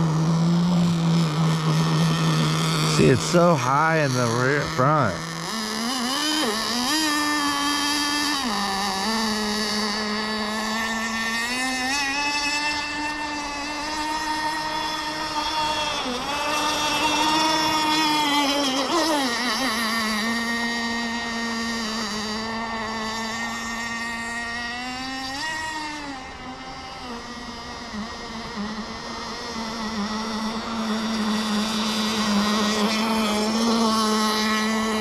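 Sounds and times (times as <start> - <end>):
model boat engine buzzing: 0.0 - 35.0.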